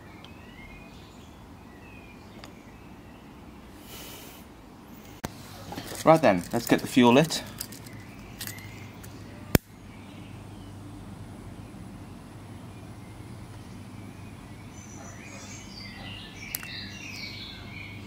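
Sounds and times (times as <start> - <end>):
birds chirping: 0.0 - 3.8, 4.5 - 18.0
steady low hum: 0.0 - 18.0.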